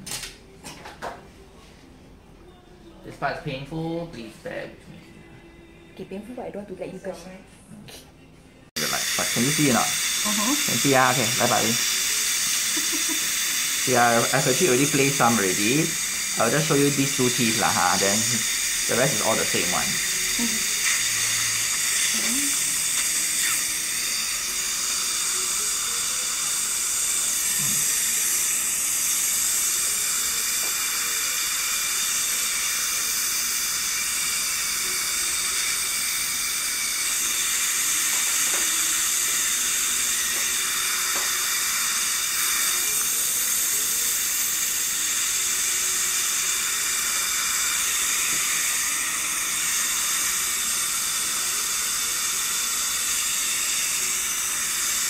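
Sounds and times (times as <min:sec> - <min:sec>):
dental suction hissing: 0:08.8 - 0:55.0.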